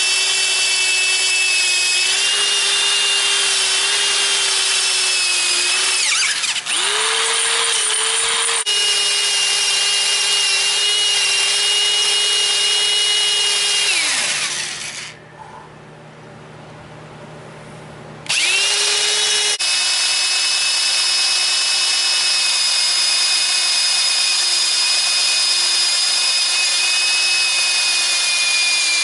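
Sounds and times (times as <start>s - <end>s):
electric power tool whining: 0.0s - 15.2s, 18.3s - 29.0s.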